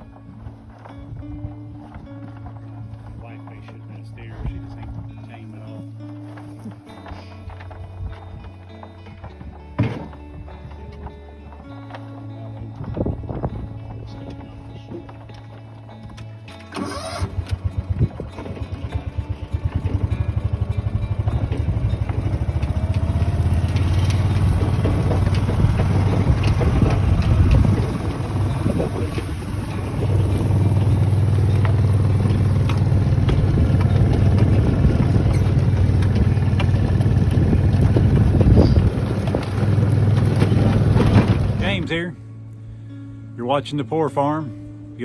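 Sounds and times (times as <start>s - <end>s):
vehicle engine starting and running: 0.0s - 42.6s.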